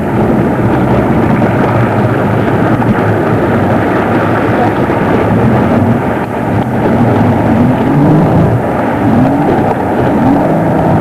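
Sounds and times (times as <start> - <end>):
boat engine running: 0.0 - 11.0
loud even rush of noise: 0.0 - 11.0.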